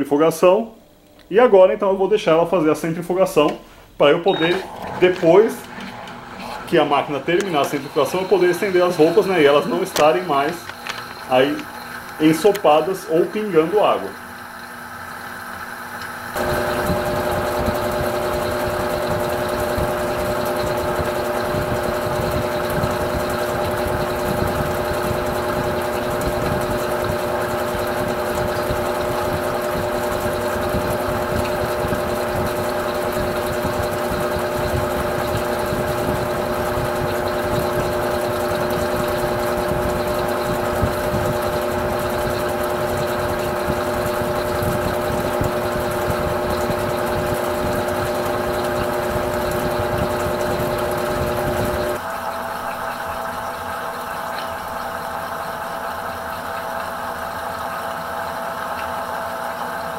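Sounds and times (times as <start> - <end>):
washing machine spinning: 0.5 - 59.9.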